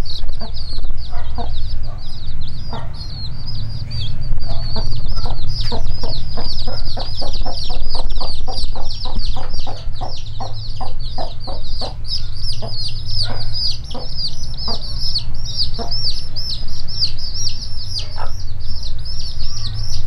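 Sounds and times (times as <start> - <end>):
chicks peeping: 0.0 - 20.0
hen clucking: 0.0 - 20.0
low steady hum: 0.0 - 20.0.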